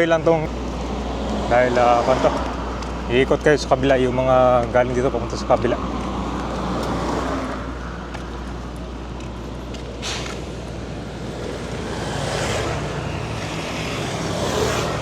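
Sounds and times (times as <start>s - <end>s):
low traffic hum: 0.0s - 15.0s
vehicles passing: 0.0s - 15.0s.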